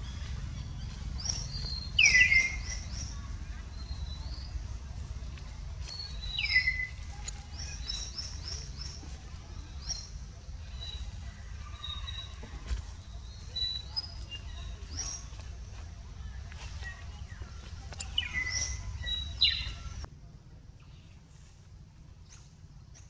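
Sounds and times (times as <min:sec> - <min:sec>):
birds chirping: 0:00.0 - 0:20.1
low steady rumble: 0:00.0 - 0:23.0.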